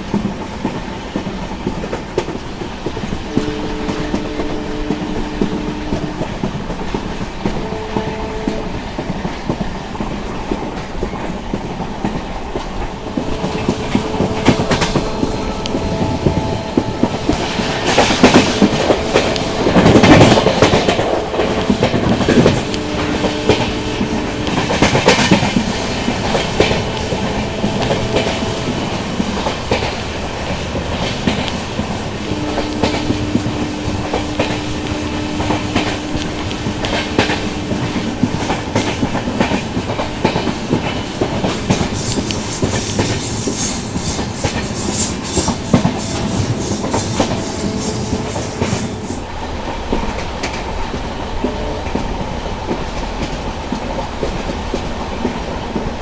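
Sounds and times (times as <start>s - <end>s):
train rumble: 0.0s - 56.0s
train wheels clattering over rail joints: 0.0s - 56.0s.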